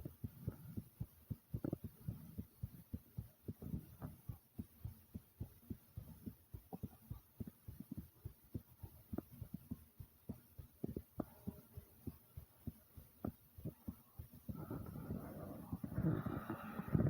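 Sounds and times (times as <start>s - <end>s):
fast heartbeat thumps: 0.0s - 17.0s.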